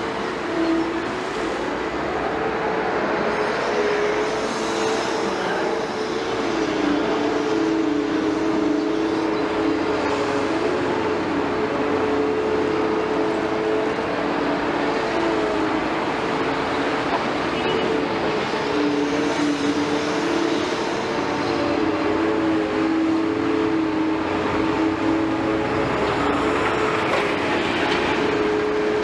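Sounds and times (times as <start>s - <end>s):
excavator running with humming whine: 0.0s - 29.0s.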